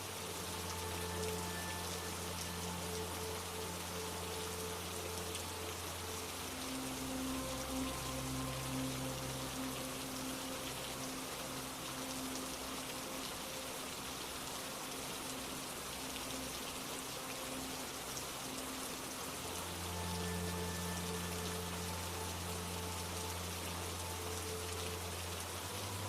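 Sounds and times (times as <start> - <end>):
faint held music tone: 0.0 - 26.0
low soft chord: 0.0 - 26.0
rain pattering: 0.0 - 26.0.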